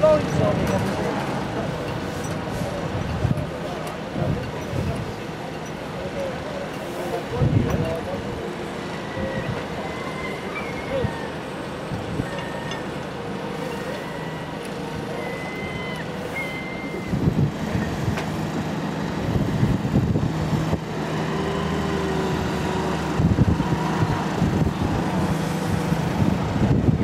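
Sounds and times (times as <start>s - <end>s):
crane engine running: 0.0s - 27.0s.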